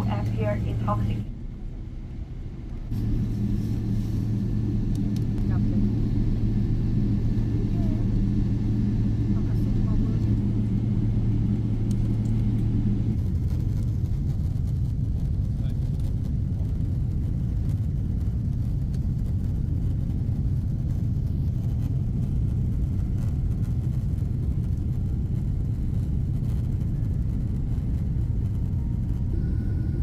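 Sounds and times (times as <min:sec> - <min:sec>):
airliner cabin rumble: 0:00.0 - 0:30.0.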